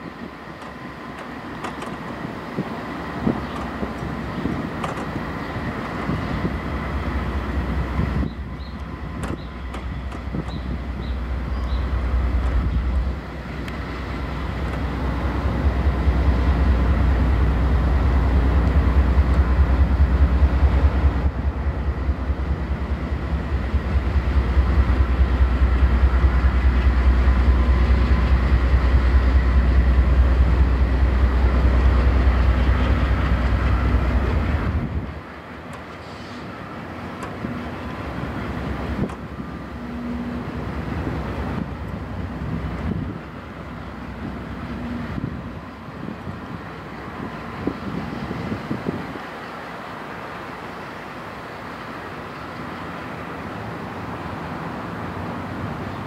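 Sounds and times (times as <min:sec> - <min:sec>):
diesel locomotives rumbling: 0:00.0 - 0:56.0.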